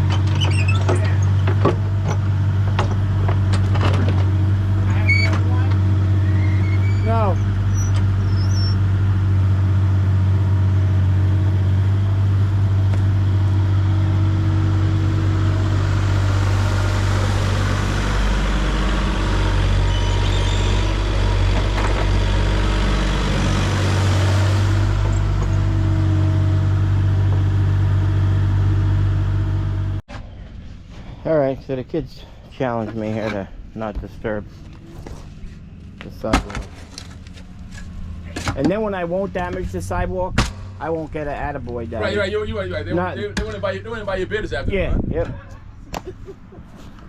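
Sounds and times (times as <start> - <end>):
large vehicle engine running: 0.0 - 31.4, 33.8 - 44.7.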